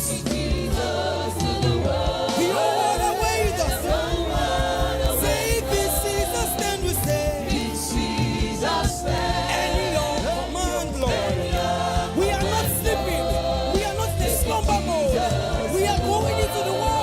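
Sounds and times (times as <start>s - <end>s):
backing band with bass and drums: 0.0s - 17.0s
choir singing gospel music: 0.0s - 17.0s.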